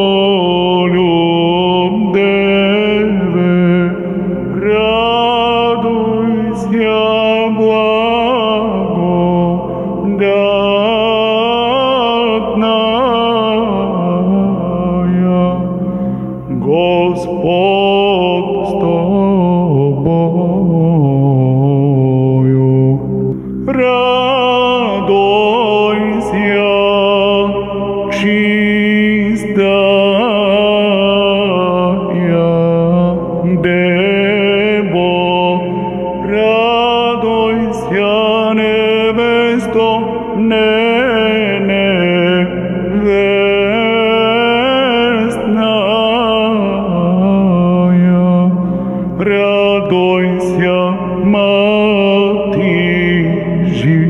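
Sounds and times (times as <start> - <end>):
chanted melody: 0.0 - 54.0
held vocal drone: 0.0 - 54.0.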